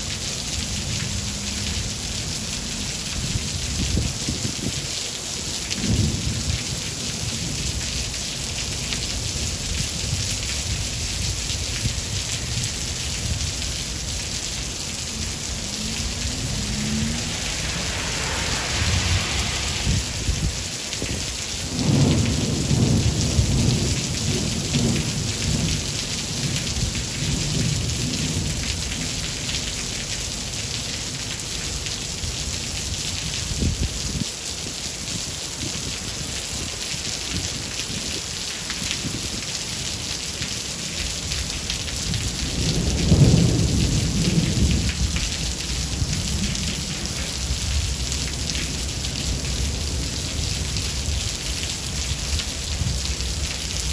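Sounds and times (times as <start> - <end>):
heavy rain: 0.0 - 53.9
rolling thunder: 0.1 - 34.1, 41.4 - 53.9.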